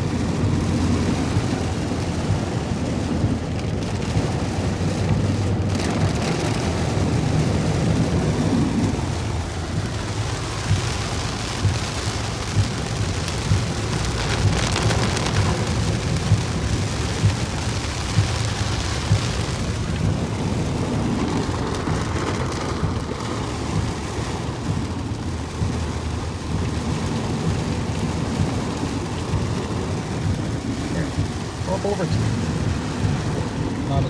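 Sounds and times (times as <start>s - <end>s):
engine and road rumble: 0.0s - 34.0s
heavy rain on a car: 0.0s - 34.0s.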